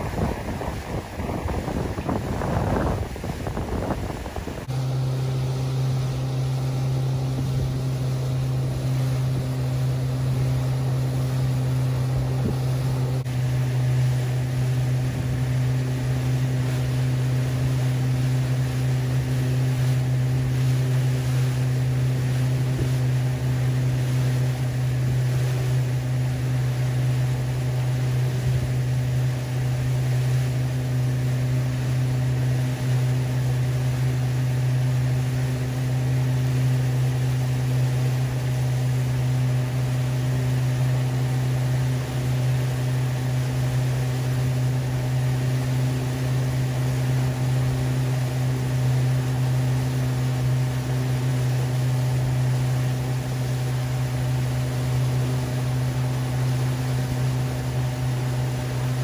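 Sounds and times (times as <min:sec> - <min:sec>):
boat engine droning: 0:00.0 - 0:59.0
wind and water hiss: 0:00.0 - 0:59.0.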